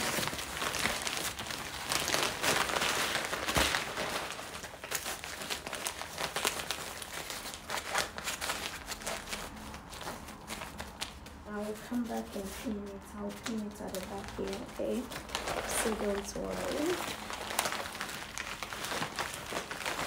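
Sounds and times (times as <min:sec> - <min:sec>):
fabric rustling and crinkling: 0:00.0 - 0:20.0.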